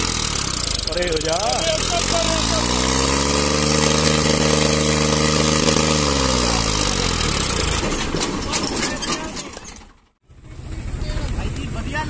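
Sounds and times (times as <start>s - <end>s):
wheels cracking over bricks: 0.0s - 10.2s
tractor diesel engine running: 0.0s - 12.0s.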